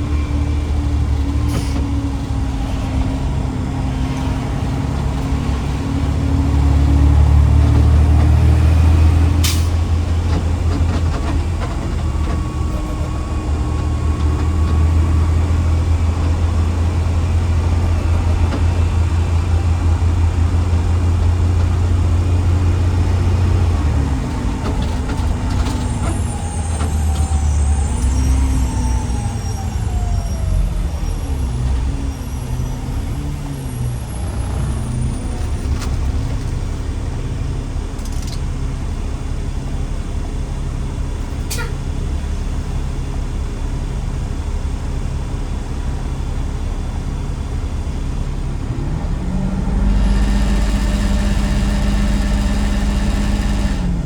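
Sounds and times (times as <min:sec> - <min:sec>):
garbage truck engine running: 0:00.0 - 0:54.0.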